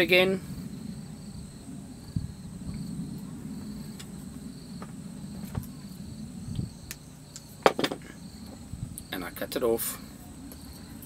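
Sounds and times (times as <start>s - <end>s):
low rumble: 0.0s - 9.1s
crickets chirping: 0.0s - 11.0s
high insect tone: 0.0s - 11.0s.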